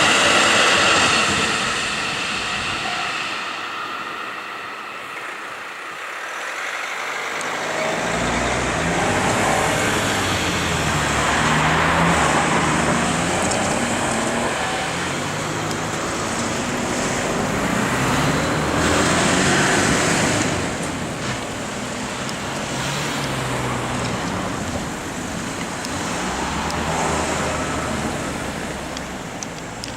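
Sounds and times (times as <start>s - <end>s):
freight train rumbling: 0.0s - 29.9s.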